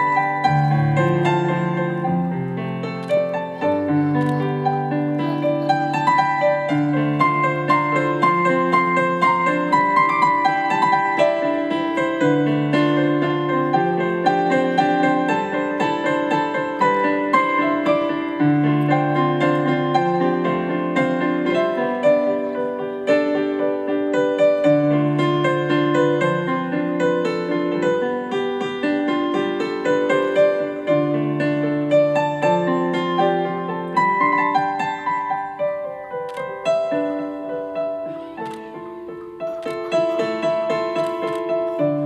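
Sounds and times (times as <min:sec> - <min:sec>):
electronic keyboard piano piece: 0:00.0 - 0:42.0.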